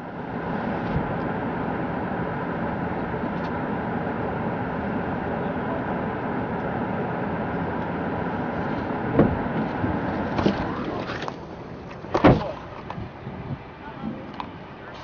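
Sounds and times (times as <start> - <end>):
car interior road noise: 0.0 - 15.0.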